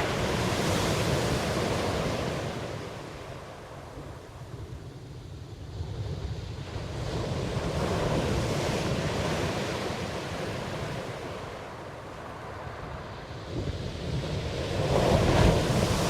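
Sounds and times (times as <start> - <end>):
ocean wave washing: 0.0 - 4.5, 6.5 - 16.0.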